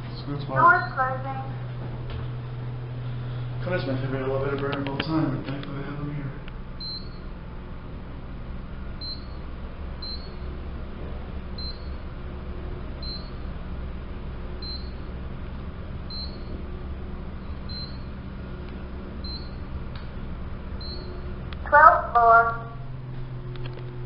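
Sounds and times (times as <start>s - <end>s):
elevator low hum: 0.0s - 24.0s.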